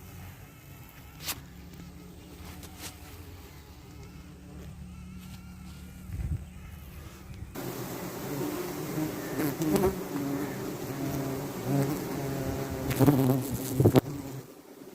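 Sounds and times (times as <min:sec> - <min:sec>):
bees buzzing: 0:00.0 - 0:14.9.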